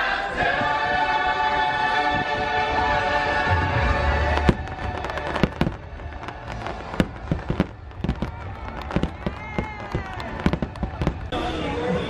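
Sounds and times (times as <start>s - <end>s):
firework bangs and crackles: 0.6s - 11.8s.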